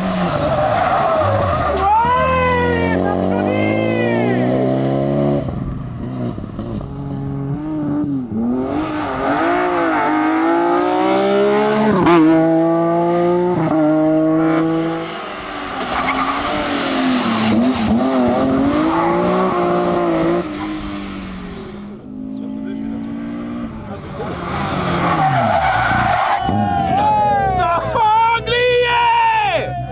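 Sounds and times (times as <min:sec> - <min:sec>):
rally car engine revving hard: 0:00.0 - 0:26.7.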